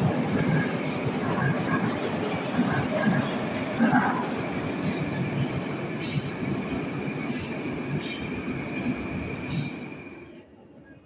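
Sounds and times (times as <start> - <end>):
metro train running: 0.0 - 11.0.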